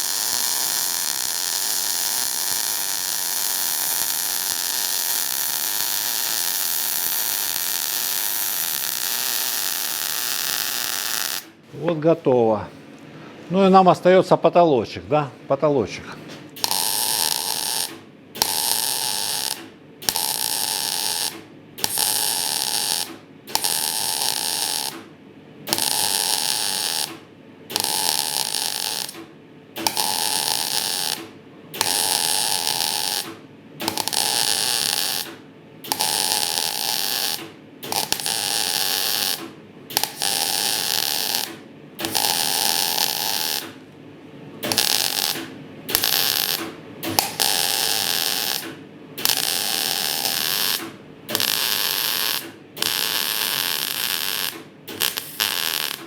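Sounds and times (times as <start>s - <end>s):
welding arc buzzing: 0.0s - 11.6s, 16.6s - 25.0s, 25.7s - 29.2s, 29.8s - 43.8s, 44.6s - 56.0s.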